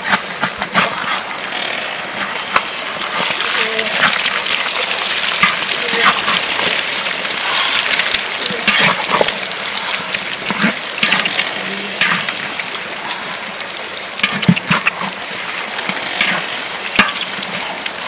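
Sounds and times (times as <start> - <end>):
metal ladle scraping a pan: 0.0 - 13.3, 14.2 - 18.0
eggs sizzling in hot oil: 0.0 - 18.0.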